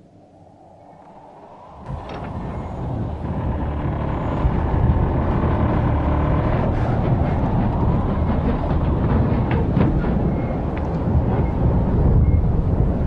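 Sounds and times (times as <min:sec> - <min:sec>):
wind: 0:00.0 - 0:13.0
windmill sails low rumble: 0:00.0 - 0:13.0.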